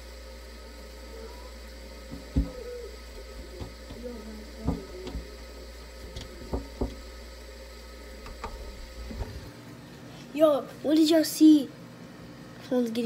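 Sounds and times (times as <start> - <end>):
muffled fridge hum: 0.0 - 13.0.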